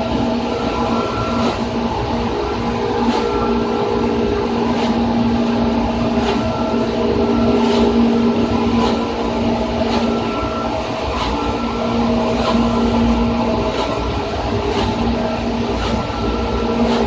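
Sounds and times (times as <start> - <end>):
traction motor and gear hum: 0.0 - 17.0
train wheels rumbling: 0.0 - 17.0.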